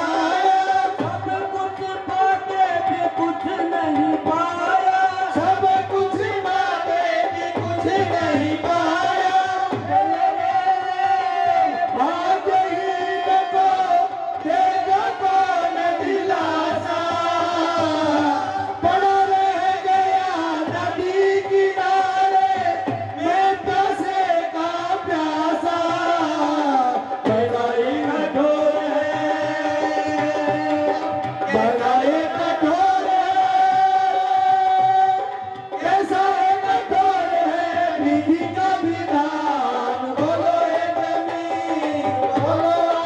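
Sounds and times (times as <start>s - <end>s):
tabla: 0.0s - 43.0s.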